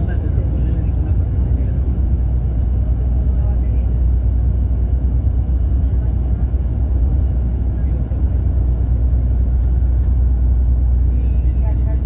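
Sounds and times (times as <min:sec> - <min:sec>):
road rumble inside a vehicle: 0:00.0 - 0:12.0.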